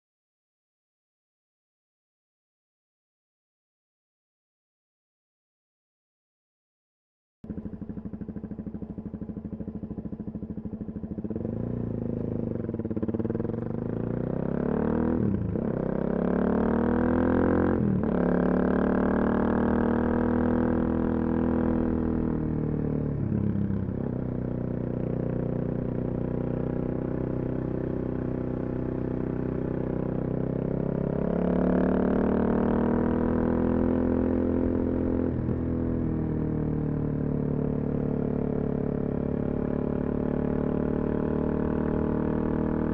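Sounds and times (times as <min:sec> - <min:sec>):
motorcycle accelerating through gears: 0:07.5 - 0:42.9.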